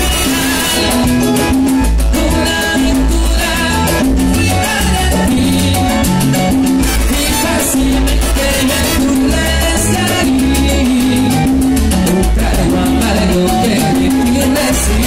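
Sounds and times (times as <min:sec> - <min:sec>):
electric bass: 0:00.0 - 0:15.0
hand percussion: 0:00.0 - 0:15.0
keyboard: 0:00.0 - 0:15.0
trumpet: 0:00.0 - 0:15.0.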